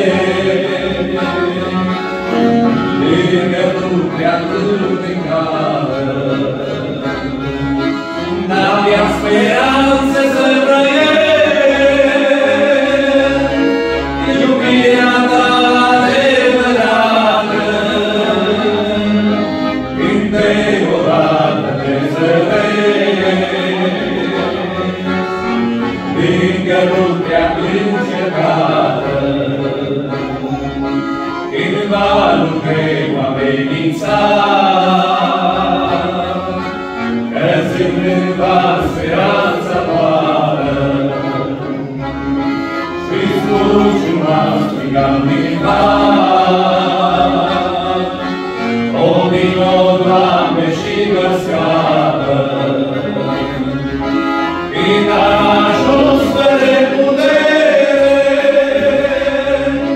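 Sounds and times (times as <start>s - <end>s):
men singing a hymn: 0.0s - 30.7s, 31.3s - 59.9s
accordion: 0.0s - 59.9s.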